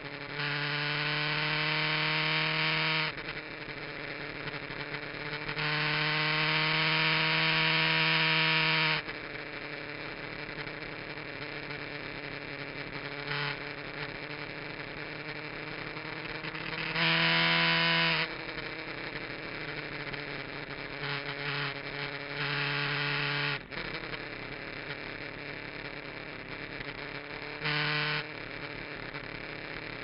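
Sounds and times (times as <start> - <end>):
motorcycle engine running steadily: 0.0 - 30.0.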